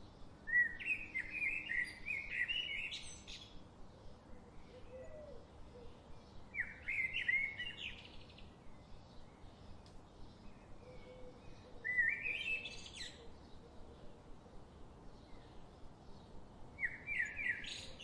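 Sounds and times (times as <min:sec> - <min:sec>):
faint bird chirps: 0:00.0 - 0:13.7, 0:16.2 - 0:18.0
songbird singing: 0:00.0 - 0:18.0.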